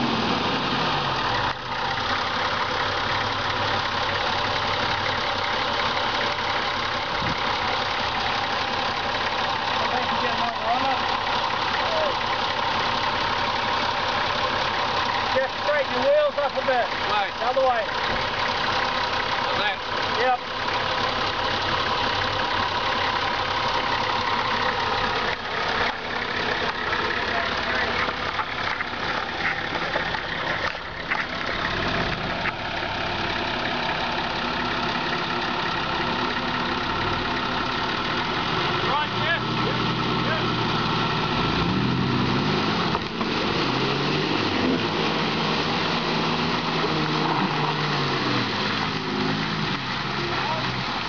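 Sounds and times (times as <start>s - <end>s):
engine running at low revs: 0.0s - 51.0s.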